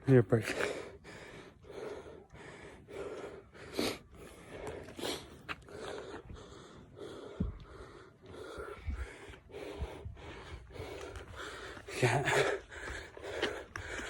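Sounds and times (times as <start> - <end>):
man breathing heavily: 0.0 - 14.0.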